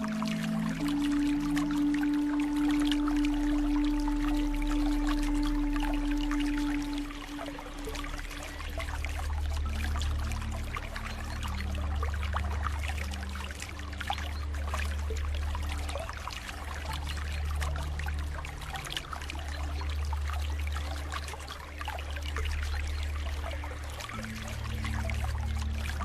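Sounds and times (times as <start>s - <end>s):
soft low sustained music: 0.0s - 26.0s
water trickling and splashing: 0.0s - 26.0s.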